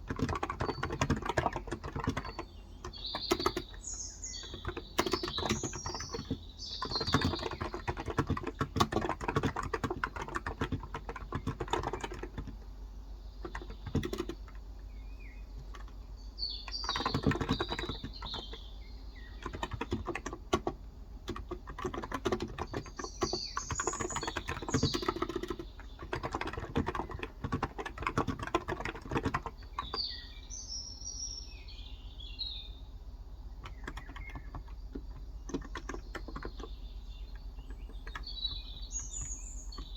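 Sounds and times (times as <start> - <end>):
typing on keyboard: 0.0 - 12.7, 13.4 - 14.8, 15.6 - 16.0, 16.6 - 30.2, 33.6 - 39.9
birds chirping: 0.0 - 39.9.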